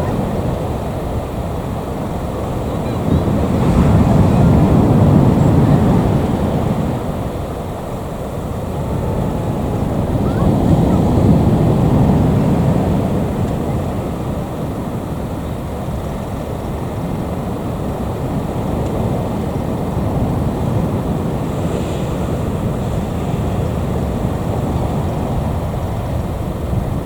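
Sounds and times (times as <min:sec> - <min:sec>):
jet engine roar: 0:00.0 - 0:27.0
wind buffeting microphone: 0:00.0 - 0:27.0.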